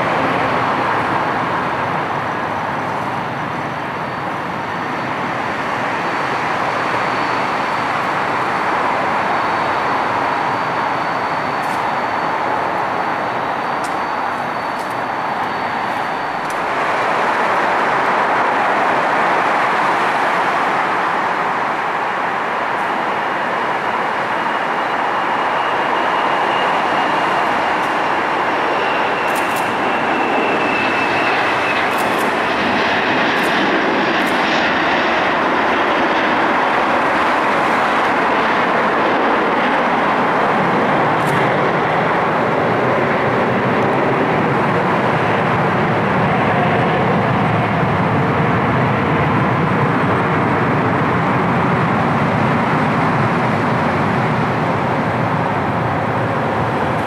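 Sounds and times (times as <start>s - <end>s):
high jet whine: 0.0s - 57.0s
jet engines roaring: 0.0s - 57.0s.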